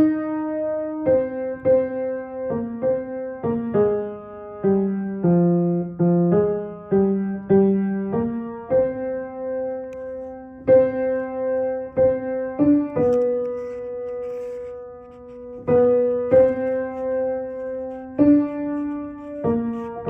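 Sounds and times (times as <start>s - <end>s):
piano notes: 0.0s - 20.0s.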